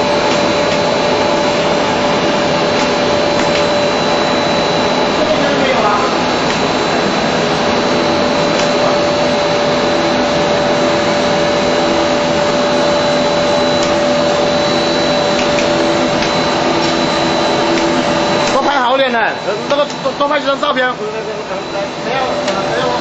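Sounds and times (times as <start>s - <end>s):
constant machine whine: 0.0s - 23.0s
machine whirring and hissing: 0.0s - 23.0s.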